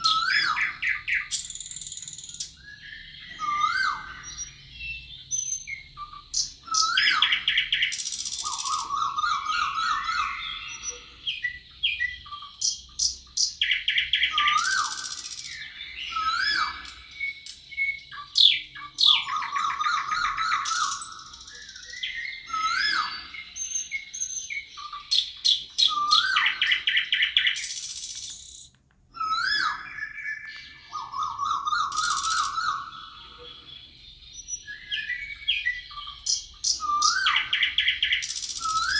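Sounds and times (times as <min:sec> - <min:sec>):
forest birds singing: 0:00.0 - 0:38.9.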